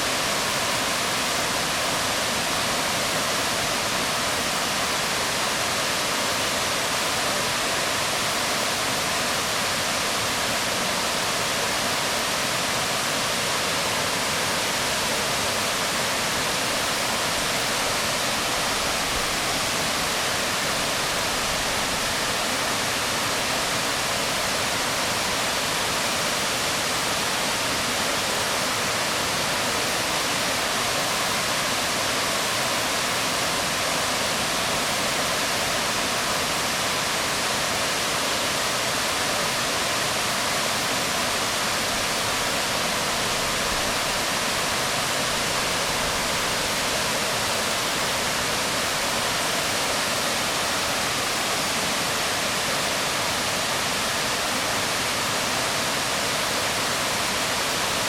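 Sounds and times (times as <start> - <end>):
waterfall falling on rocks: 0.0 - 58.0.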